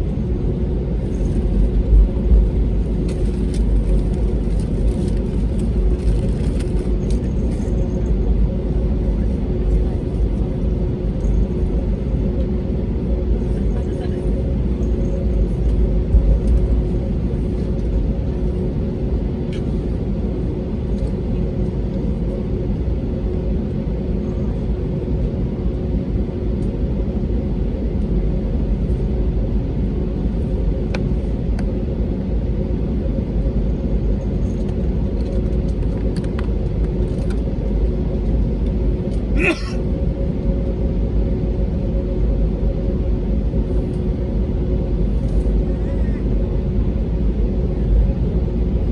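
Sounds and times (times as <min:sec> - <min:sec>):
airplane cabin engine hum: 0:00.0 - 0:48.9.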